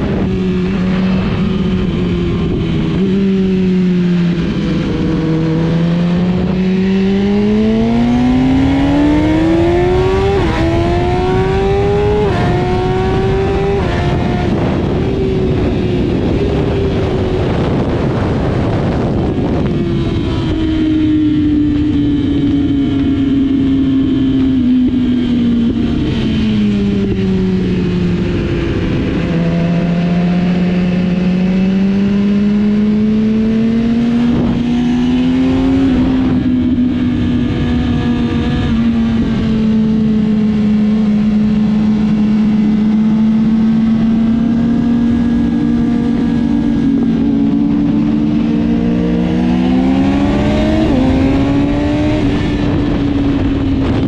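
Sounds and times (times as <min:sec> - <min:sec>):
wind rushing: 0:00.0 - 0:23.3, 0:25.0 - 0:54.0
motorcycle engine running hard: 0:00.0 - 0:54.0.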